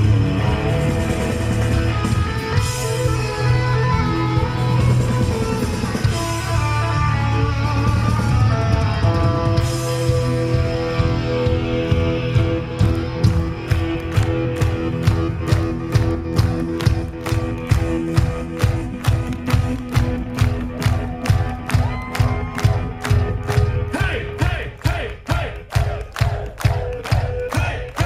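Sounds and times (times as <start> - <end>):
electric guitar lead: 0.0 - 24.4
hard rock band playing: 0.0 - 25.0, 25.8 - 28.0.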